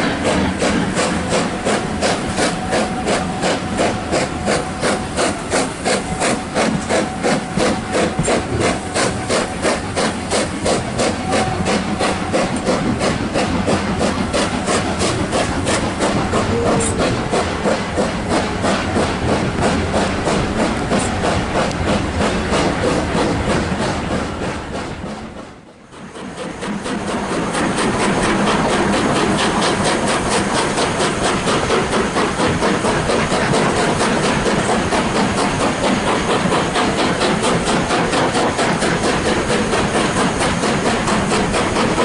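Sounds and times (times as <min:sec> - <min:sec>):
steam locomotive exhaust beating: 0:00.0 - 0:42.0.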